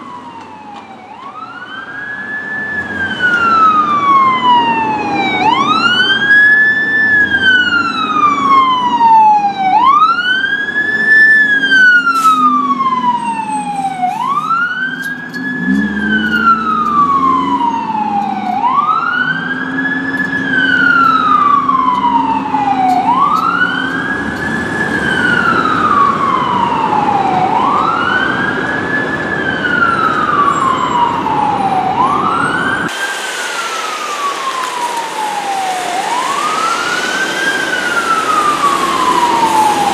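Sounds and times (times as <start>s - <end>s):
fire truck siren wailing: 0.0s - 39.9s
truck engine rumble: 0.0s - 39.9s.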